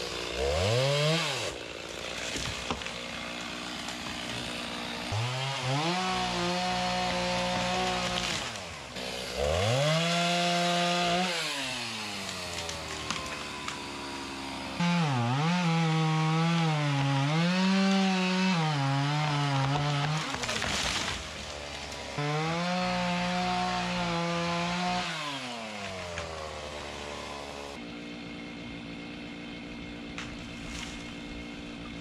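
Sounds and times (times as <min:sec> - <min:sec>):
chainsaw idling: 0:00.0 - 0:32.0
chainsaw revving through wood: 0:00.0 - 0:32.0.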